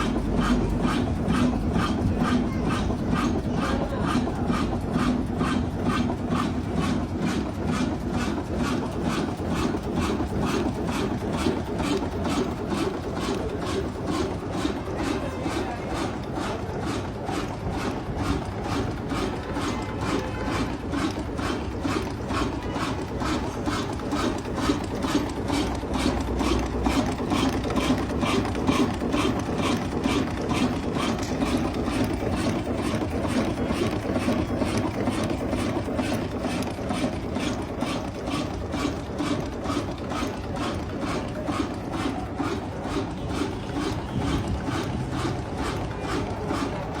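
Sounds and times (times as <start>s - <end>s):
diesel engine clattering: 0.0s - 47.0s.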